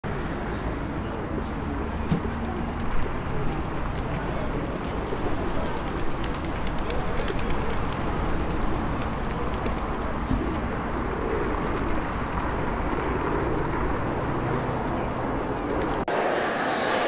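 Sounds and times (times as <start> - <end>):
steady background rush: 2.5 - 17.0.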